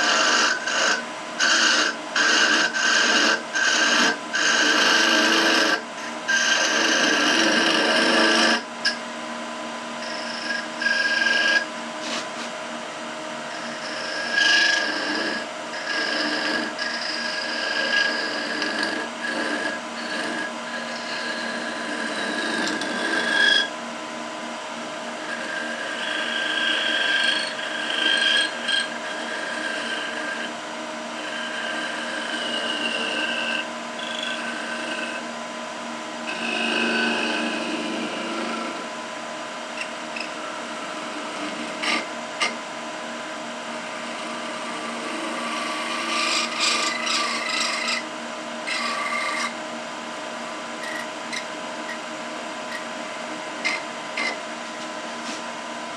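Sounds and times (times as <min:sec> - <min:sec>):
lathe motor hum: 0:00.0 - 0:09.0, 0:09.9 - 0:23.8, 0:24.7 - 0:55.9
turning tool cutting wood: 0:00.0 - 0:09.0, 0:10.0 - 0:12.5, 0:13.4 - 0:23.7, 0:25.1 - 0:30.6, 0:31.2 - 0:35.3, 0:36.3 - 0:39.0, 0:39.8 - 0:42.6, 0:43.8 - 0:49.6, 0:50.8 - 0:55.4.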